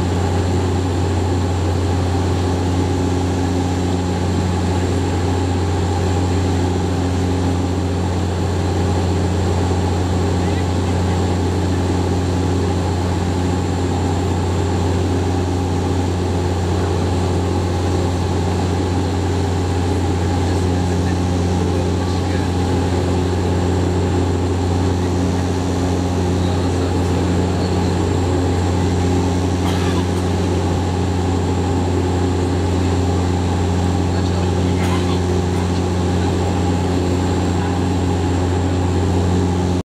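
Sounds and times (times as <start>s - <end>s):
turboprop engine drone in cabin: 0.0s - 39.8s.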